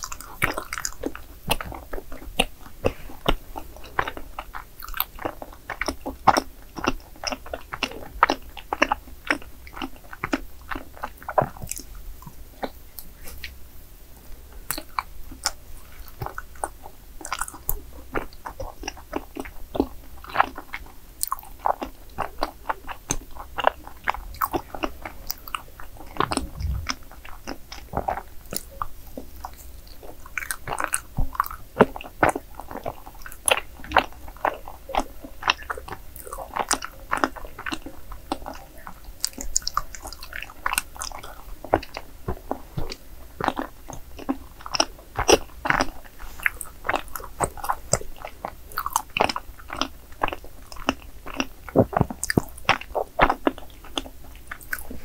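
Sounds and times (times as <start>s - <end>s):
chewing mouth clicks and smacks: 0.0s - 13.6s, 14.7s - 55.0s.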